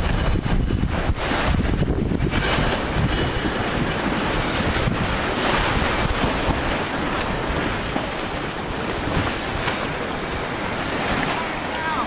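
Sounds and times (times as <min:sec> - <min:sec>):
water washing around sailboat: 0:00.0 - 0:12.0
wind blowing across microphone: 0:00.0 - 0:12.0.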